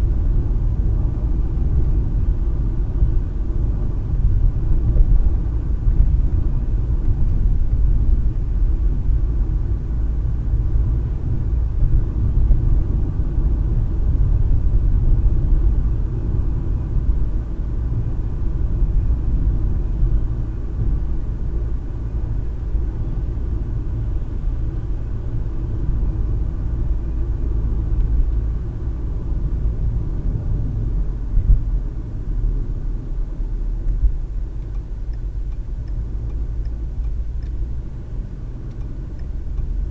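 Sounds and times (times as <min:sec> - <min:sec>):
car cabin road and engine noise: 0:00.0 - 0:39.9.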